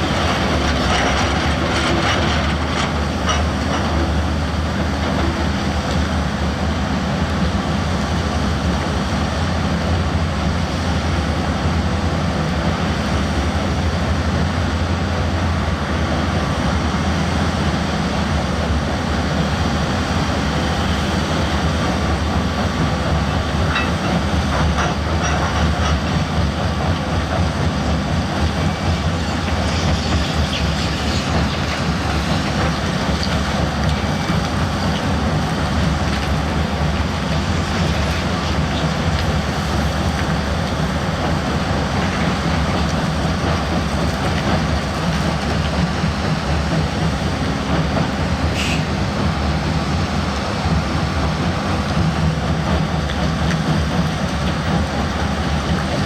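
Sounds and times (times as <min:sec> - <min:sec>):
heavy diesel machine running: 0:00.0 - 0:56.0.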